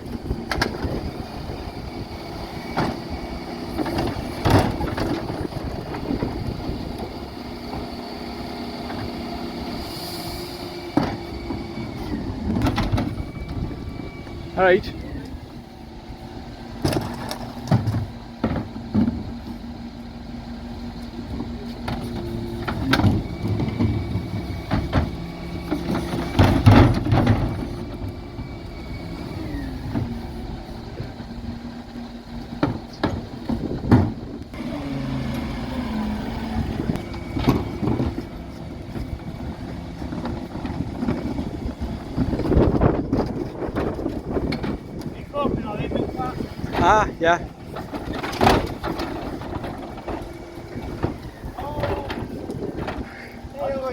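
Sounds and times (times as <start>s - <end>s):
bin lift whine: 0.0s - 53.9s
truck engine and hydraulic hum: 0.0s - 53.9s
wheelie bins banging: 0.0s - 53.9s.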